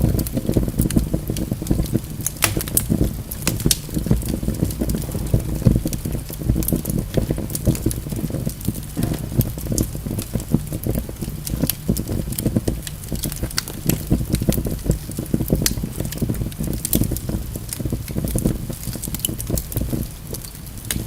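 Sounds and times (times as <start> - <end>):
fire rumbling in fireplace: 0.0 - 21.0
logs crackling and popping: 0.0 - 21.0.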